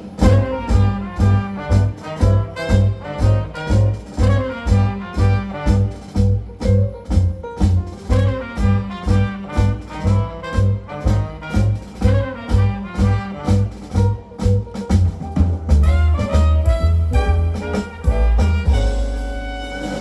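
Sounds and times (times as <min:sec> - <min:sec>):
jazz band playing swing: 0:00.0 - 0:20.0
pulsing bass line: 0:00.2 - 0:20.0.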